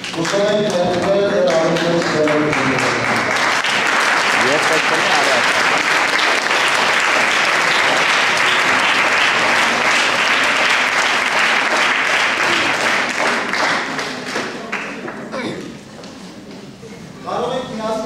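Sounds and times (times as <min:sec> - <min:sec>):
audience applauding: 0:00.0 - 0:15.3.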